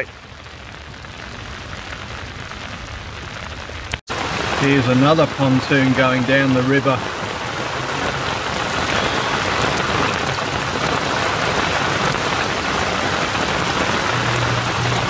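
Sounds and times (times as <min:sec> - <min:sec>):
heavy rain hissing: 0:00.0 - 0:15.0
raindrop taps: 0:00.0 - 0:15.0.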